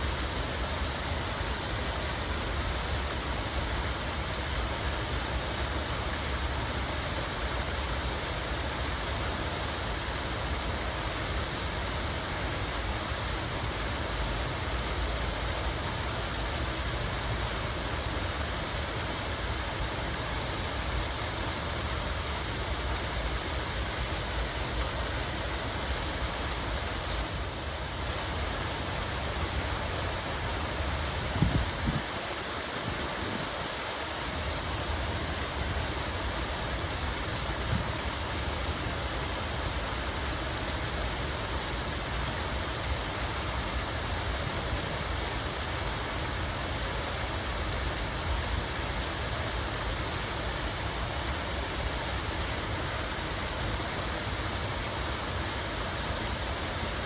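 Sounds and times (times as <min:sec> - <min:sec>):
fountain water rushing: 0:00.0 - 0:57.0.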